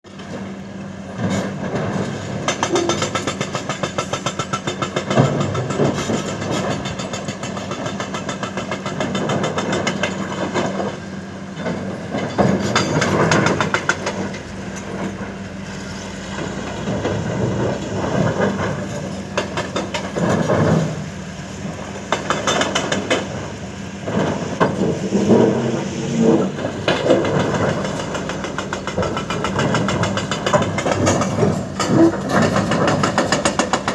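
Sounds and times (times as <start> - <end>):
heavy machinery engine throbbing: 0.3 - 33.9.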